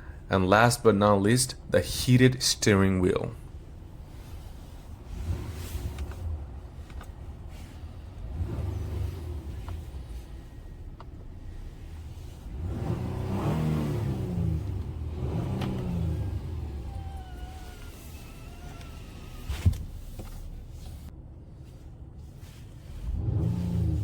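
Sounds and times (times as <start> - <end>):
car engine rumbling and revving: 0.0 - 24.0.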